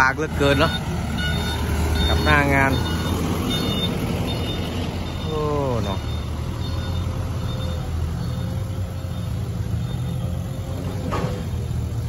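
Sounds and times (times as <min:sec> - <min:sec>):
heavy diesel engine rumbling: 0:00.0 - 0:12.0.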